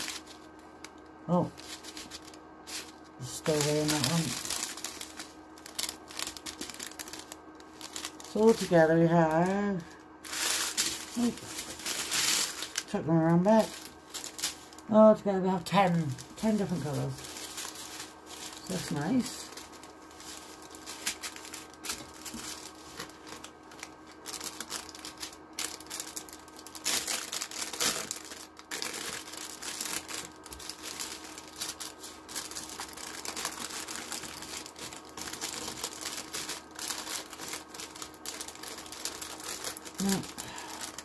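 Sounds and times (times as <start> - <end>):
plastic packaging crinkling: 0.0 - 41.0.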